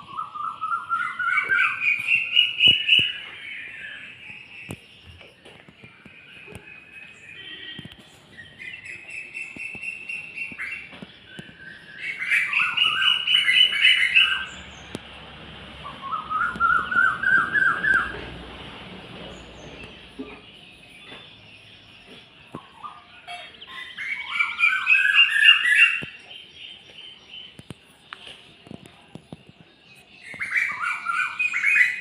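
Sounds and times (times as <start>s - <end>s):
faint high bird twittering: 0.0s - 15.0s, 19.3s - 28.8s, 29.4s - 32.0s
songbirds singing: 0.0s - 32.0s.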